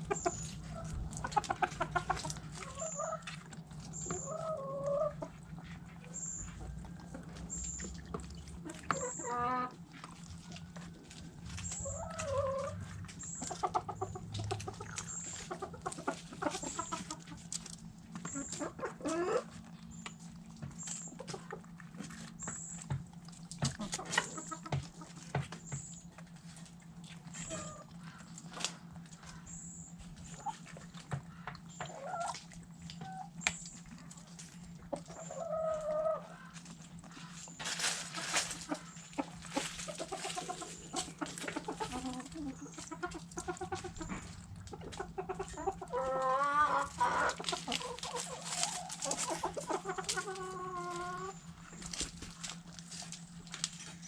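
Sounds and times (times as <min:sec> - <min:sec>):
hens clucking and calling: 0:00.0 - 0:54.0
steady low hum: 0:00.0 - 0:54.0.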